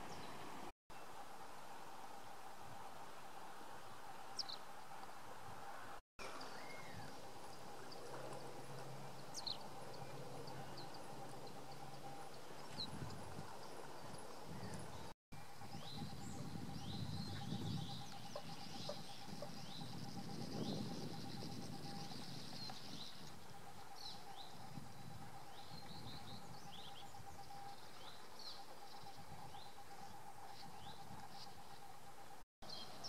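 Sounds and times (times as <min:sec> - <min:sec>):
faint steady hum: 0:00.0 - 0:33.0
birds chirping and twittering: 0:06.2 - 0:33.0.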